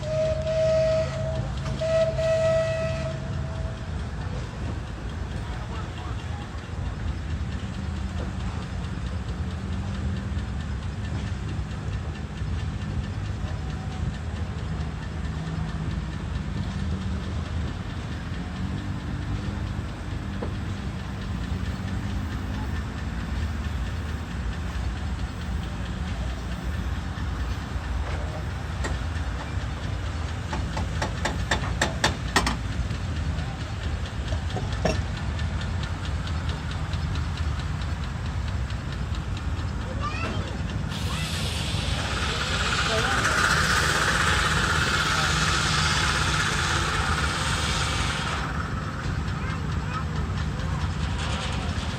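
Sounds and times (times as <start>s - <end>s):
steam engines rumbling: 0.0s - 51.9s.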